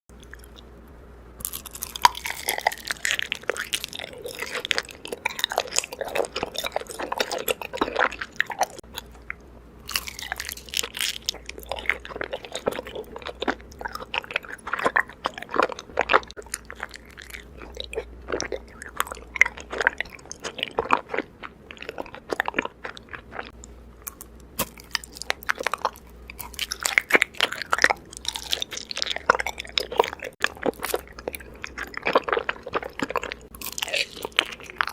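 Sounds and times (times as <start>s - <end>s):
chewing crunchy honeycomb: 1.4s - 34.9s.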